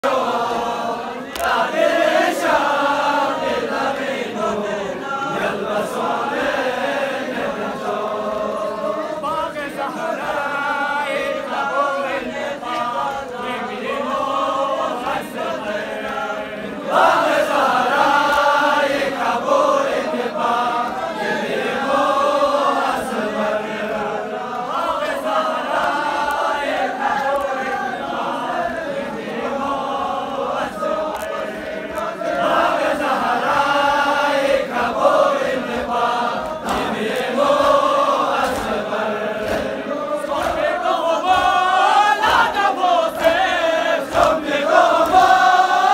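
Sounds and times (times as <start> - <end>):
crowd of men chanting: 0.0 - 45.9.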